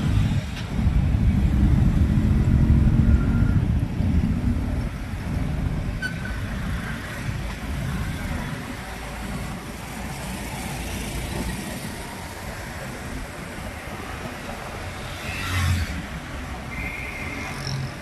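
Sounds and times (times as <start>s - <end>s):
street traffic: 0.0s - 18.0s
wind and road rush: 0.0s - 18.0s.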